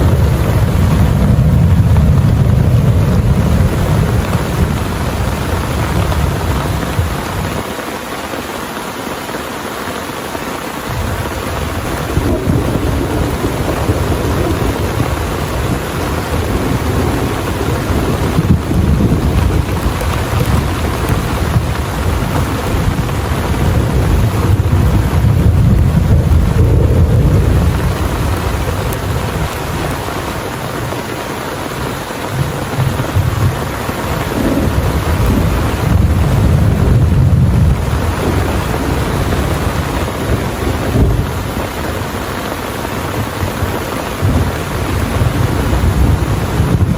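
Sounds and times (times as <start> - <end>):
low thunder rumbles: 0.0 - 7.6, 10.9 - 31.1, 31.8 - 42.5, 43.1 - 46.9
heavy rain pouring: 0.0 - 46.9.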